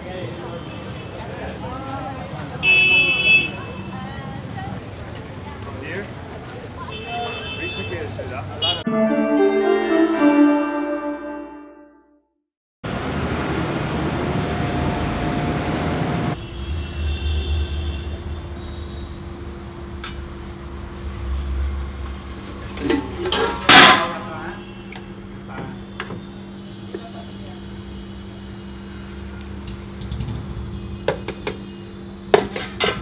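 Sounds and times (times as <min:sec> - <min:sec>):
street food stall hum: 0:00.0 - 0:08.9, 0:12.8 - 0:33.0.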